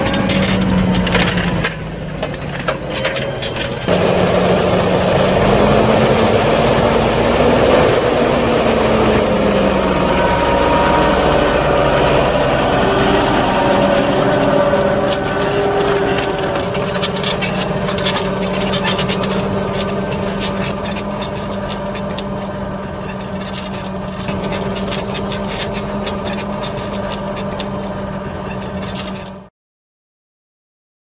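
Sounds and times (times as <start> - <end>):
plough rattling and scraping soil: 0.0 - 29.5
tractor diesel engine under load: 0.0 - 29.5.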